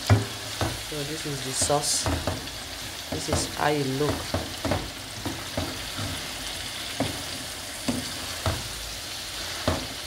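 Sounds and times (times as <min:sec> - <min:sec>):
sauce sizzling in oil: 0:00.0 - 0:10.0.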